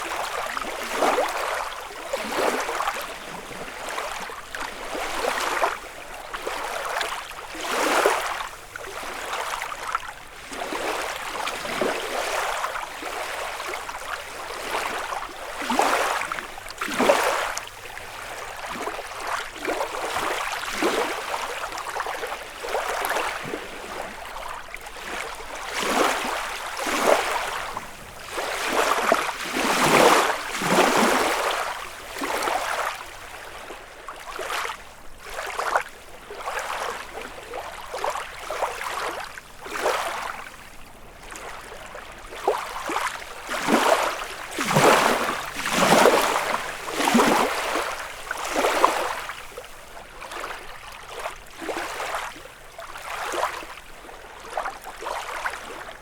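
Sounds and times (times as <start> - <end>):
lake waves lapping on shore: 0.0 - 56.0.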